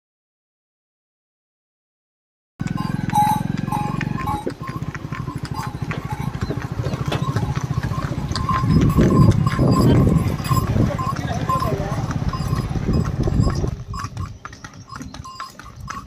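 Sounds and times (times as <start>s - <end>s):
hooves clopping: 2.6s - 16.0s
neck bells clinking: 2.6s - 16.0s
voices: 2.6s - 16.0s.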